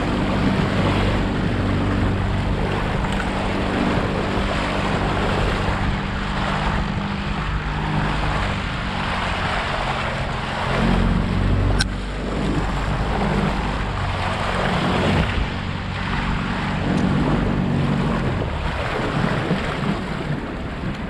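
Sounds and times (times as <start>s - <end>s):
outboard motor running: 0.0s - 21.0s
wind and rushing water: 0.0s - 21.0s.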